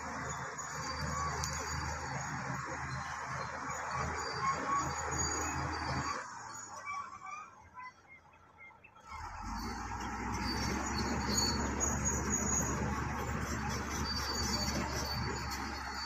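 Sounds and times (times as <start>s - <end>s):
bulldozer diesel engine rumble: 0.0s - 16.0s.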